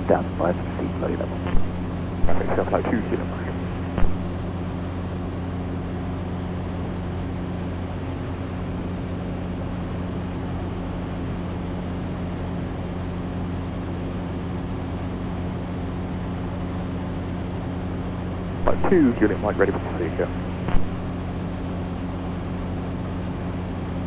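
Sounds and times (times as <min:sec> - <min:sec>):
light aircraft engine droning: 0:00.0 - 0:24.0.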